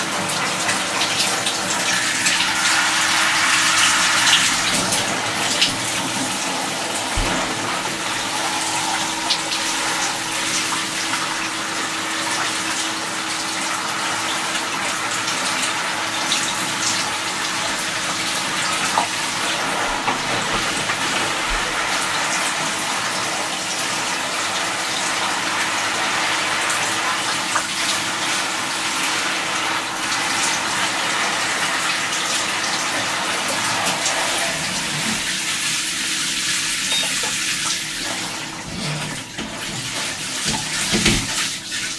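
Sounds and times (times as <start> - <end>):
running water pouring: 0.0 - 41.9.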